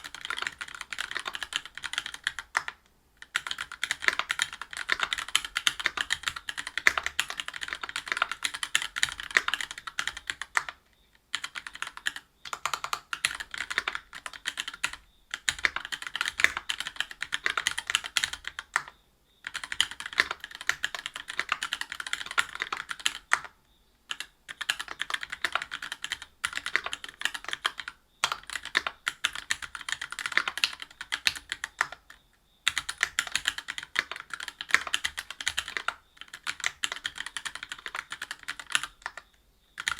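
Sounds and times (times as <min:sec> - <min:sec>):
fast mechanical keyboard typing: 0:00.0 - 0:23.5, 0:24.1 - 0:39.9.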